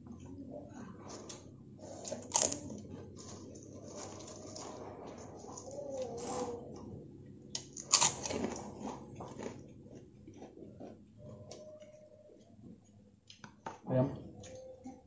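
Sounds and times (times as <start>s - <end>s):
person chewing: 0.9s - 6.6s, 7.2s - 13.6s.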